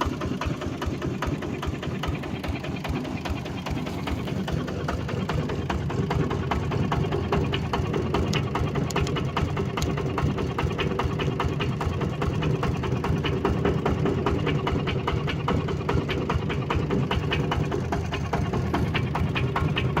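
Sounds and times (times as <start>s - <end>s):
diesel tractor engine knocking: 0.0s - 20.0s.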